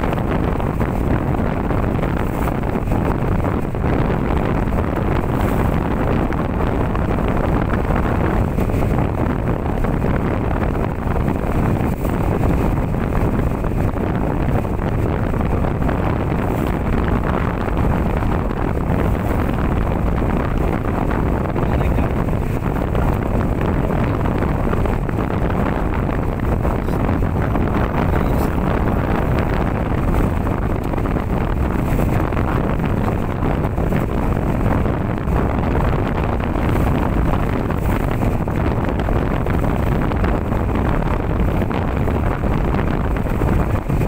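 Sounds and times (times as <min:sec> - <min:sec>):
motorboat engine running: 0:00.0 - 0:44.0
wind on microphone: 0:00.0 - 0:44.0.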